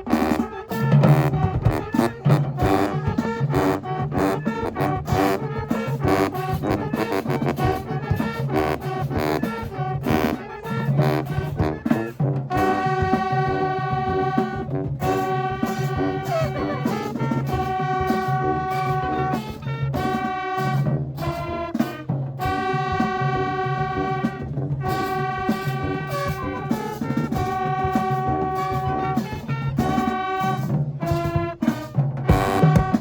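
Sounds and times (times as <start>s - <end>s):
held brass chord: 0.0s - 33.0s
marching band playing: 0.0s - 33.0s.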